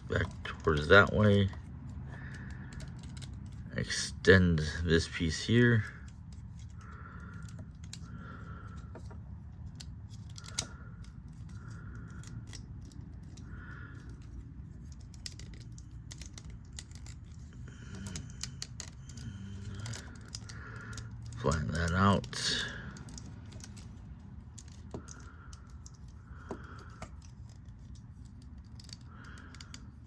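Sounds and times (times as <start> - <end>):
low steady hum: 0.0 - 30.0
plastic toy parts clicking: 0.0 - 30.0.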